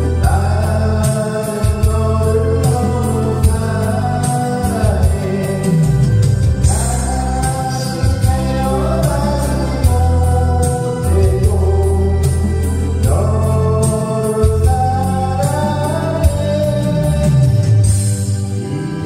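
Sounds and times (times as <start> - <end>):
backing track with bass: 0.0 - 19.0
person singing a ballad: 0.0 - 19.0.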